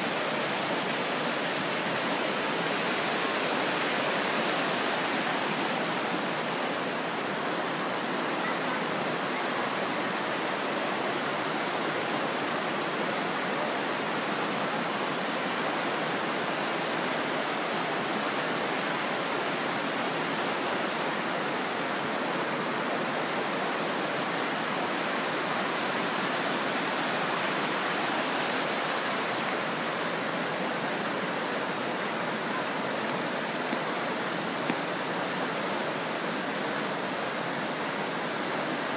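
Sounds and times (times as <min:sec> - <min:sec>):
river rushing through rapids: 0:00.0 - 0:38.9.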